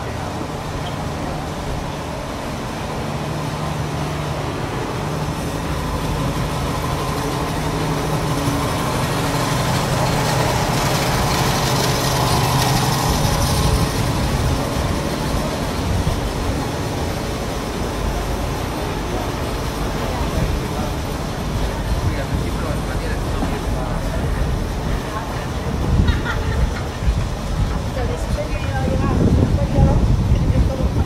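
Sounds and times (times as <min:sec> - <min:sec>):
street noise: 0:00.0 - 0:31.0.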